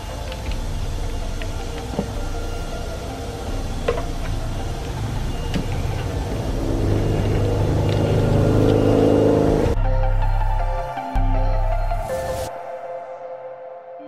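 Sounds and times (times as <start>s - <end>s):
low mechanical hum: 0.0s - 12.1s.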